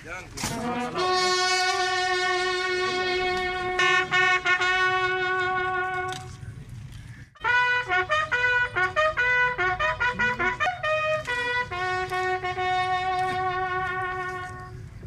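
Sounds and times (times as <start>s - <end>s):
brass horn bugle call: 0.4s - 6.4s, 7.4s - 14.9s.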